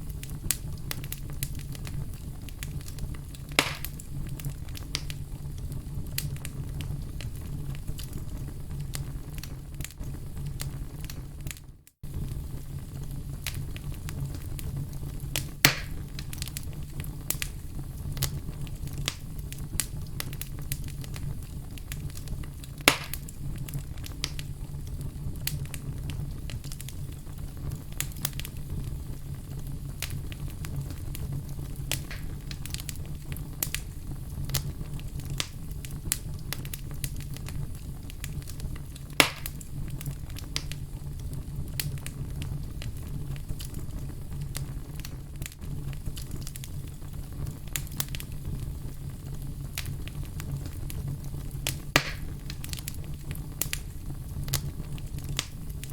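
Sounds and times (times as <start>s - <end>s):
loud fire pops: 0.0s - 55.9s
wood fire crackling: 0.0s - 55.9s.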